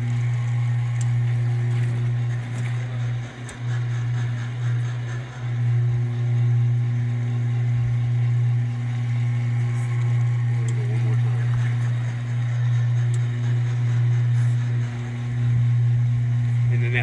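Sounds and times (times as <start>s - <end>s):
low mechanical motor hum: 0.0s - 17.0s.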